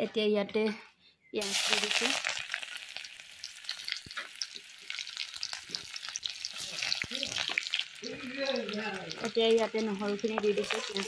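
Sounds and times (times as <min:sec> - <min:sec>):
onions sizzling in hot oil: 0:01.4 - 0:11.0.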